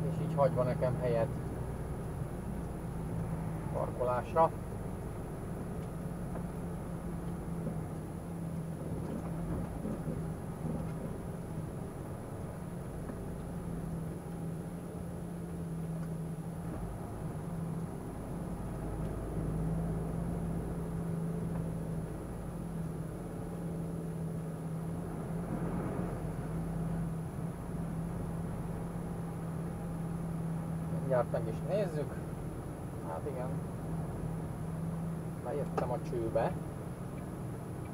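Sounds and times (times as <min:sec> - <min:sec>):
lorry diesel engine drone: 0:00.0 - 0:37.9.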